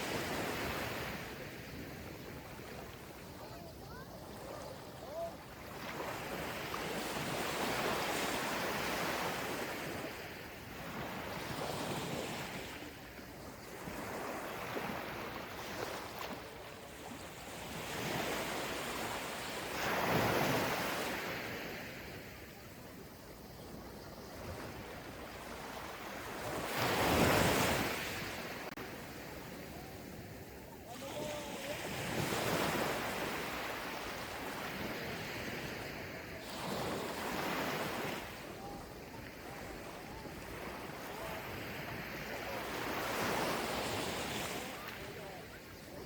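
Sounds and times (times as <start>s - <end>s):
ocean waves breaking on beach: 0.0s - 46.0s.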